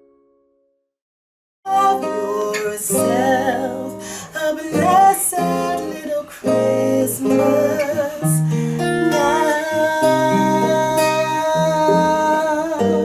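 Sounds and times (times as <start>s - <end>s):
person singing wavering: 1.7s - 13.0s
strummed acoustic guitar: 1.7s - 13.0s.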